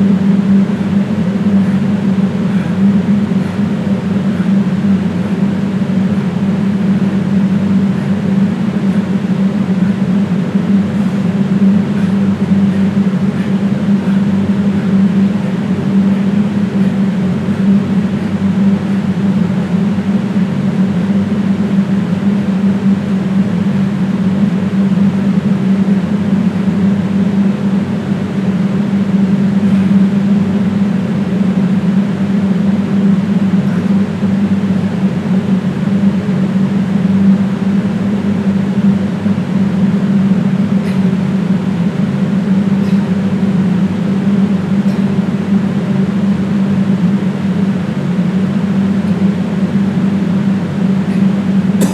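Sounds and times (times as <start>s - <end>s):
low mechanical hum: 0.0s - 51.9s.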